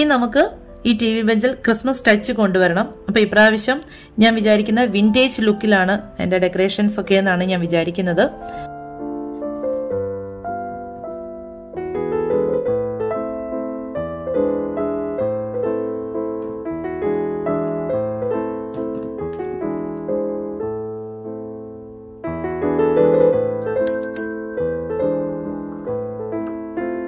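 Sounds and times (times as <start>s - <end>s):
gentle piano notes: 0.0s - 27.0s.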